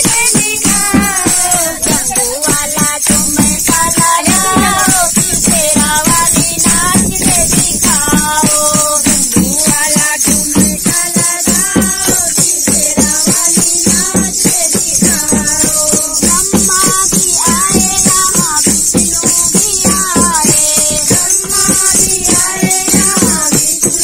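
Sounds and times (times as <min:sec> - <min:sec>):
tambourine jingling: 0:00.0 - 0:24.0
women singing in unison: 0:00.0 - 0:24.0.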